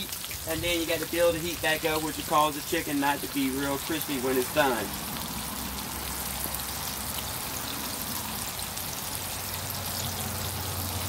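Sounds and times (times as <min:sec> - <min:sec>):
chicken deep-frying sizzle: 0:00.0 - 0:11.0.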